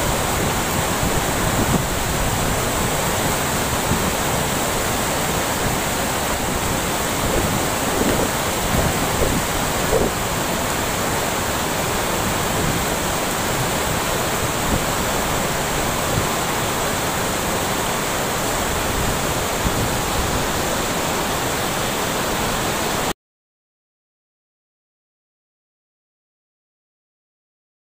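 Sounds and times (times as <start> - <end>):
river water rushing over weir: 0.0 - 23.1.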